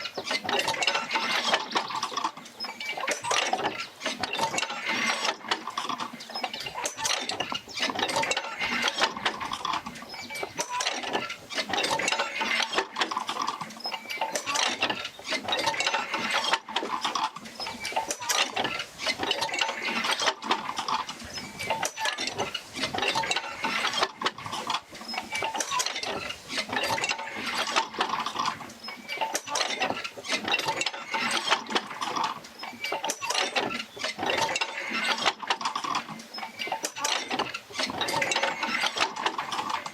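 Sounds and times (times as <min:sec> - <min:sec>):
creaking clanking machinery: 0:00.0 - 0:39.9.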